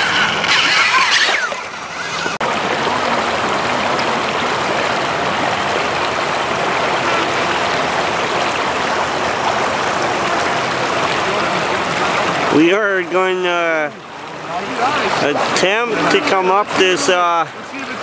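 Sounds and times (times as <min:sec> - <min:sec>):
river rapids rushing over stones: 0:00.0 - 0:18.0.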